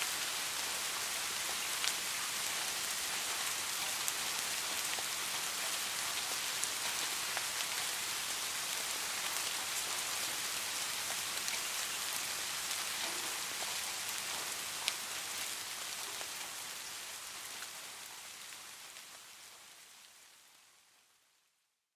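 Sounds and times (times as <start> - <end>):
steady rain hissing: 0.0 - 21.7.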